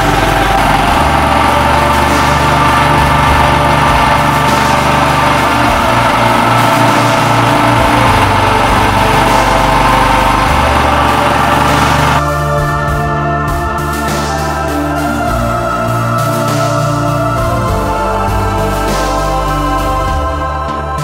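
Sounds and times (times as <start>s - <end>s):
motorcycle engine running steadily: 0.0s - 21.0s.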